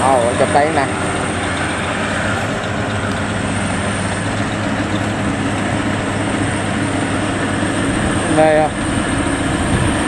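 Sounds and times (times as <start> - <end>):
combine harvester engine droning: 0.0 - 10.0.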